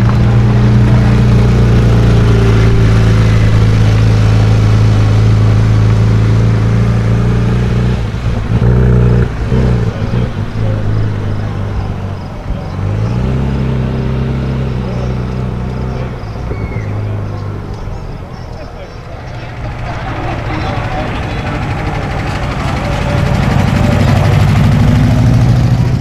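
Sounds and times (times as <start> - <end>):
car engine idling: 0.0 - 26.0
engine throttle blips: 0.0 - 26.0.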